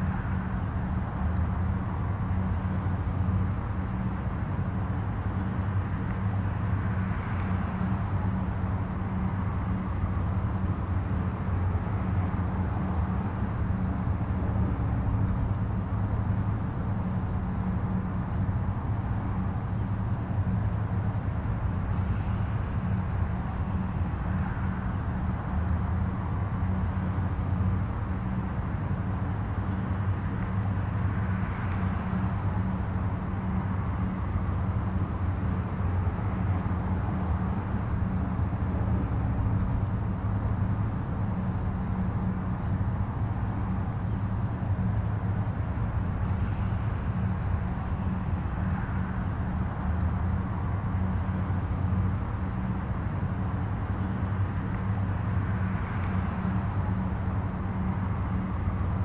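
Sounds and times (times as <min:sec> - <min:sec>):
distant highway traffic: 0:00.0 - 0:59.0.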